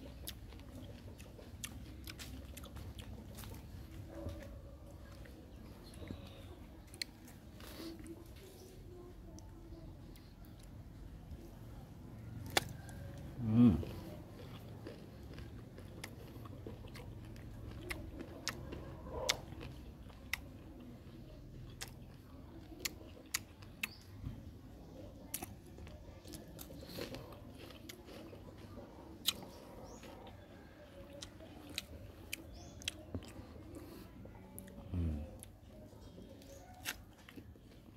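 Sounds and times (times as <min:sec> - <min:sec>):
crunching raw fruit: 0:00.0 - 0:37.9.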